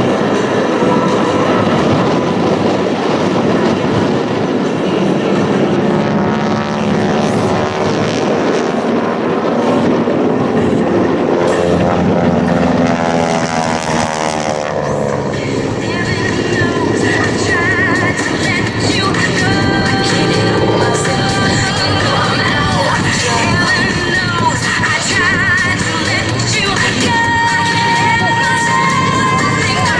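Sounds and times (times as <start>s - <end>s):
propeller aircraft engine drone: 0.0s - 29.9s.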